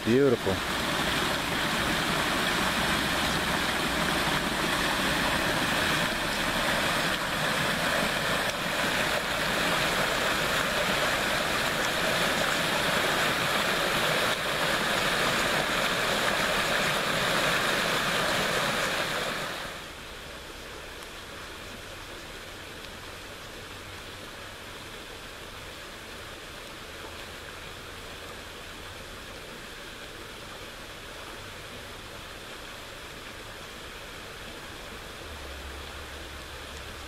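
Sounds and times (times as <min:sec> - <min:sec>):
flowing water rushing: 0:00.0 - 0:37.0.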